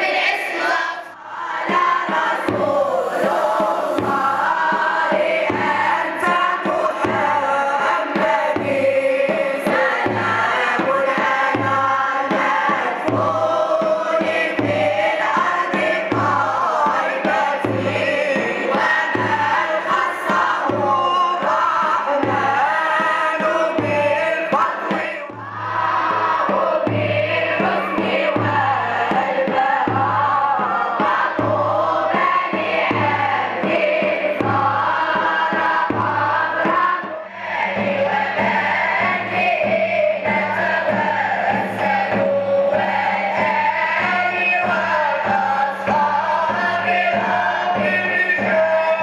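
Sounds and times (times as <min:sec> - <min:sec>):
children's choir chanting: 0:00.0 - 0:49.0
large drum beats: 0:00.0 - 0:49.0.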